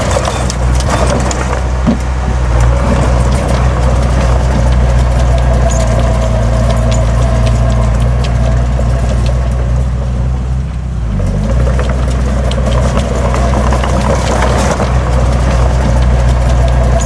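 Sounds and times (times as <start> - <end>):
heavy diesel engine running: 0.0 - 17.0
metallic clanking and rattling: 0.0 - 17.0.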